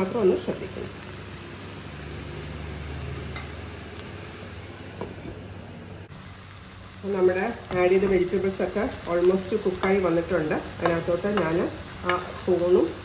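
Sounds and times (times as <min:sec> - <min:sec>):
vegetables sizzling in a wok: 0:00.0 - 0:13.0.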